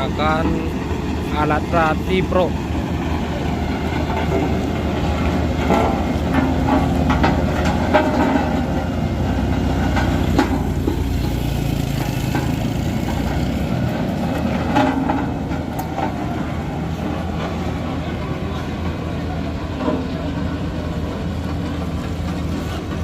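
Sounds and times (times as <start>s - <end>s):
road roller engine rumble: 0.0s - 23.0s
vibrating drum rattling: 0.0s - 23.0s.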